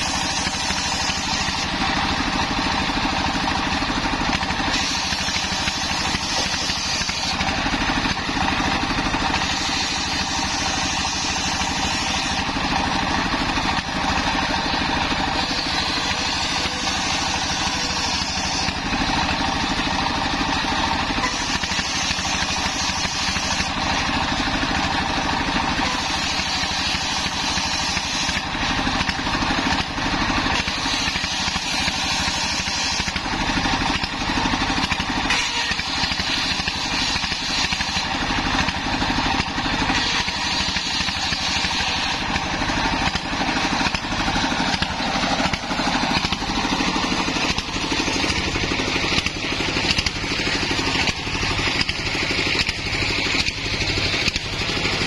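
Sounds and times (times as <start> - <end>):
circular saw cutting wood: 0.0 - 55.0
diesel engine running: 0.0 - 55.0.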